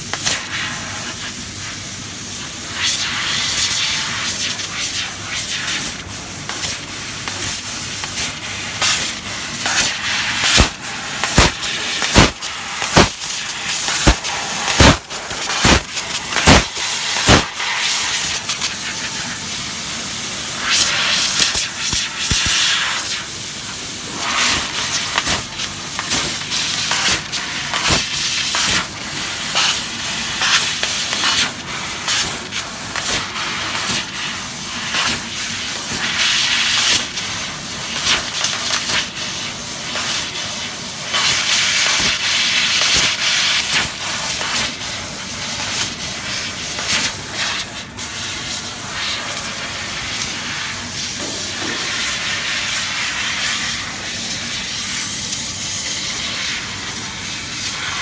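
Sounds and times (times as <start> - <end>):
laser cutter gas hiss: 0.0 - 58.0.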